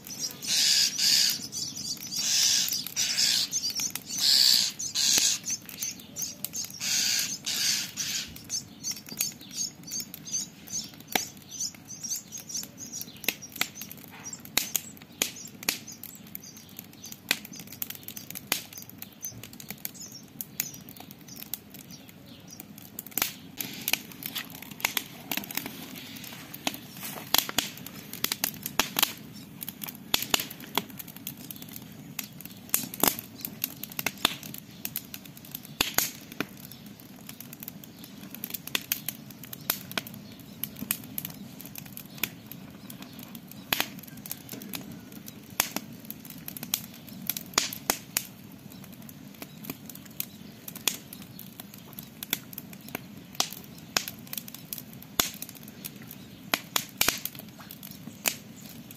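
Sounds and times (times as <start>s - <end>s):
campfire crackling: 0.0s - 58.9s.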